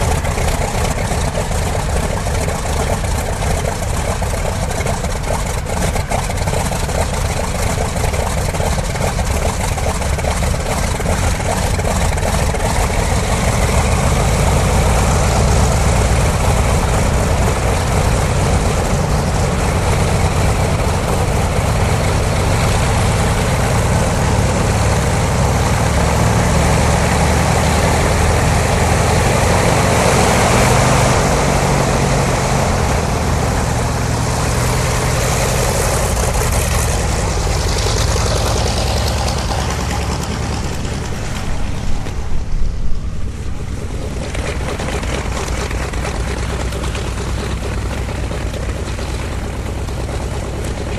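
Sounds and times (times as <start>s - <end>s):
diesel truck engine drone: 0.0s - 50.9s.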